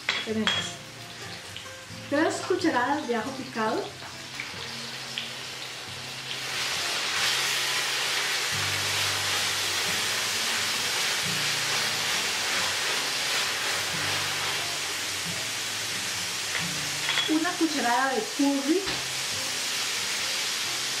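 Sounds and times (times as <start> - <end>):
garlic and onion sizzling in oil: 0.0 - 21.0.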